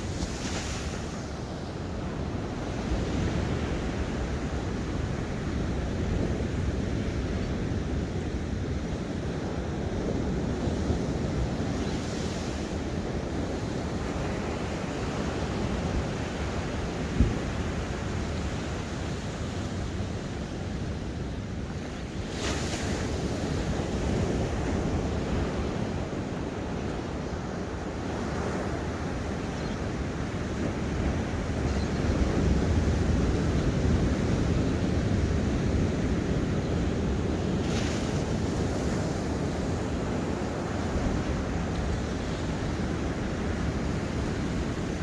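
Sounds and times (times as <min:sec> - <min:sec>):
ocean waves breaking on shore: 0:00.0 - 0:45.0.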